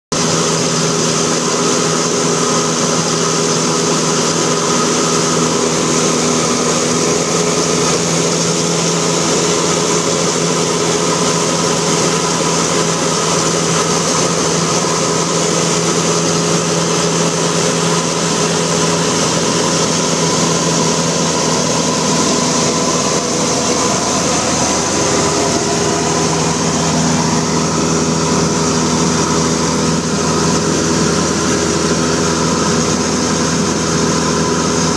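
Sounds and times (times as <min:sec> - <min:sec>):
propeller aircraft engine drone: 0:00.1 - 0:34.9
rushing airflow: 0:00.2 - 0:34.9.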